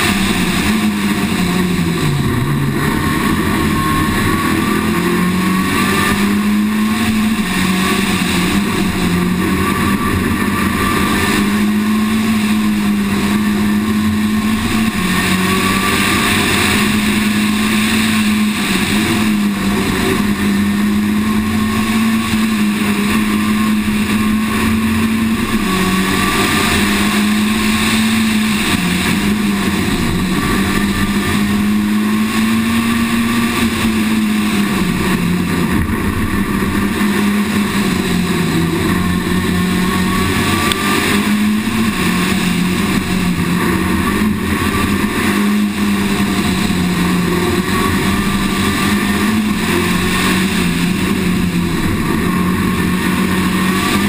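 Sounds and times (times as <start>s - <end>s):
rally car engine at high revs: 0.0s - 54.0s
wind and road noise hiss: 0.0s - 54.0s.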